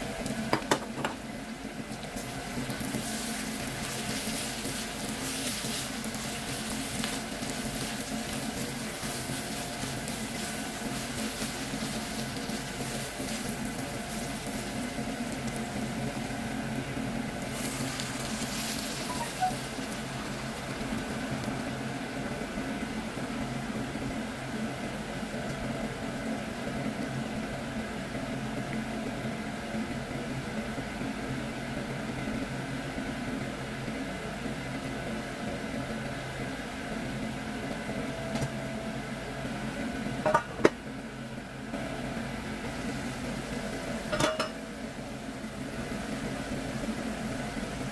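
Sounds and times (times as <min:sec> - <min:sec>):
pan simmering: 0:00.0 - 0:29.4, 0:38.8 - 0:47.9
rice and meat sizzling in a pan: 0:00.0 - 0:47.9.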